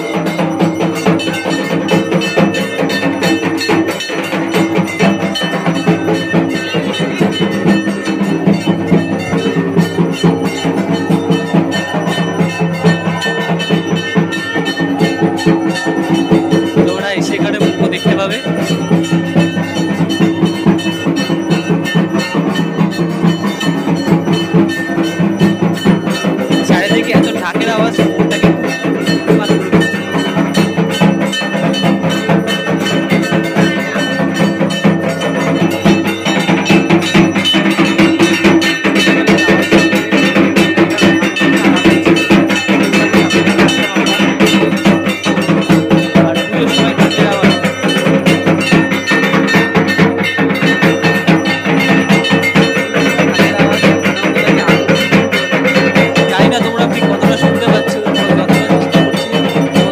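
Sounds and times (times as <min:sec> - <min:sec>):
clanging metal bells: 0:00.0 - 0:59.9
drumming: 0:00.0 - 0:59.9
rhythmic percussion music: 0:00.0 - 0:59.9.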